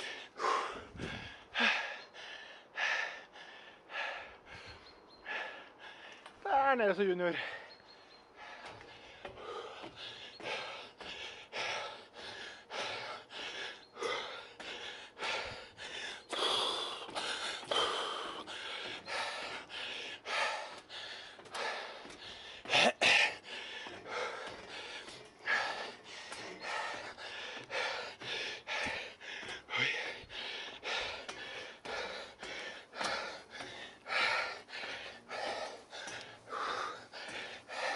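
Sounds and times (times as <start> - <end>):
man panting hard: 0.0 - 6.4, 7.4 - 37.9.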